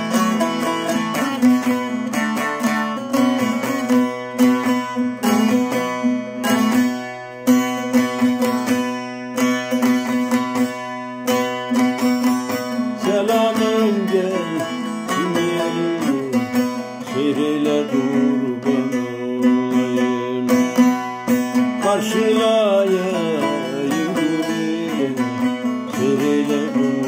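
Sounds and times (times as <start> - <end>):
man singing: 0.0 - 7.0, 12.2 - 27.0
plucked lute melody over drone: 0.0 - 27.0.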